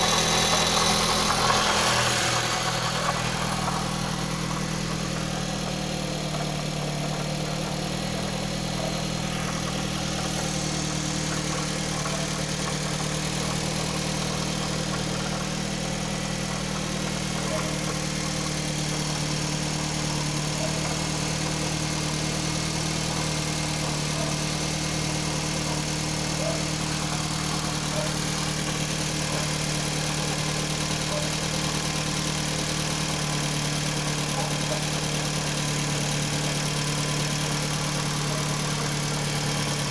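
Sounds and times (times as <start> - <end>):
car engine idling: 0.0 - 39.9
engine knock: 0.0 - 39.9.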